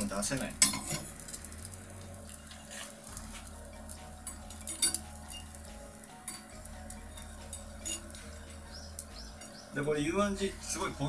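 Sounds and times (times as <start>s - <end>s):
metal skewers clicking on grill rack: 0.0s - 9.8s
fish crackling on charcoal: 0.0s - 11.0s
steady low hum: 0.0s - 11.0s.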